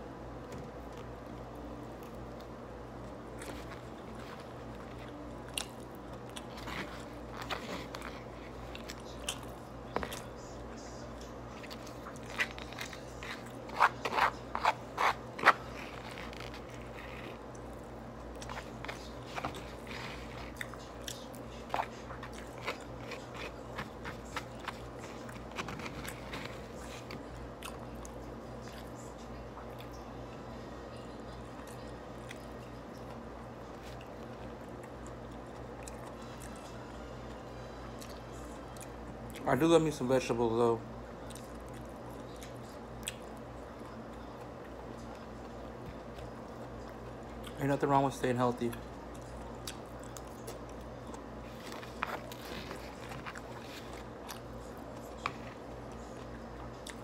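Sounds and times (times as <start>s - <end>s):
chewing: 0.9s - 29.0s, 31.3s - 36.8s, 41.2s - 47.6s, 48.7s - 57.0s.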